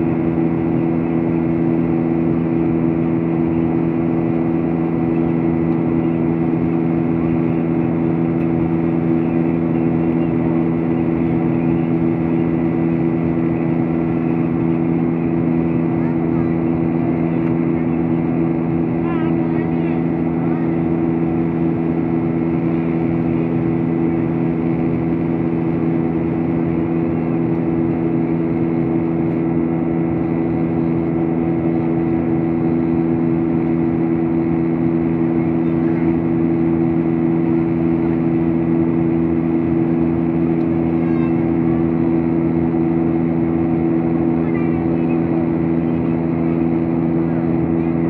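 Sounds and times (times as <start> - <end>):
airliner engine drone: 0.0 - 48.0
low hums: 0.0 - 48.0.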